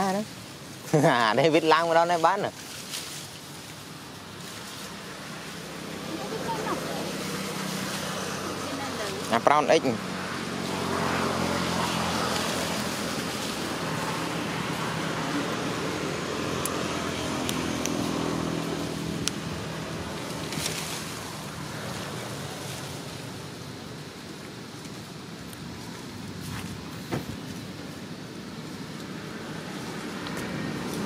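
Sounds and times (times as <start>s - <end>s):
vehicle engine running: 3.9s - 31.0s.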